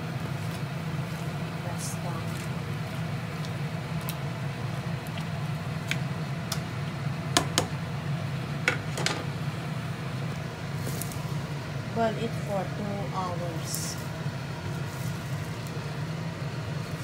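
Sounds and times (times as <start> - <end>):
electric cooktop hum: 0.0 - 17.0.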